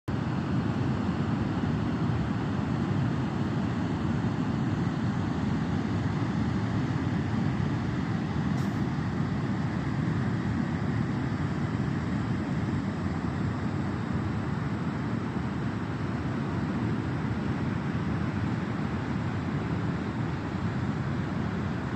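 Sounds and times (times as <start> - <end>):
wind: 0.1 - 21.9.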